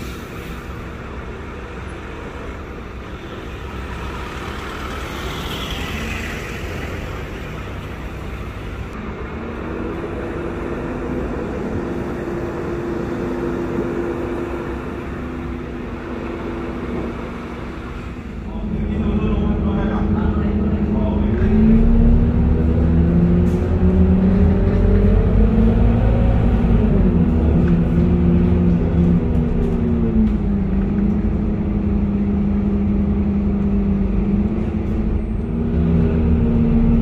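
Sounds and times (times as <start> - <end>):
bus engine hum: 0.0 - 37.0
traffic rumble: 0.0 - 37.0.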